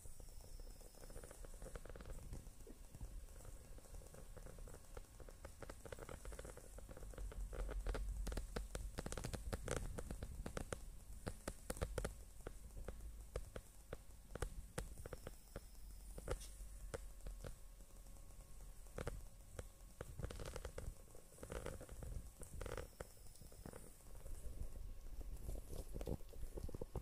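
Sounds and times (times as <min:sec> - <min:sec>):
kittens nursing wet clicking: 0:00.1 - 0:27.0.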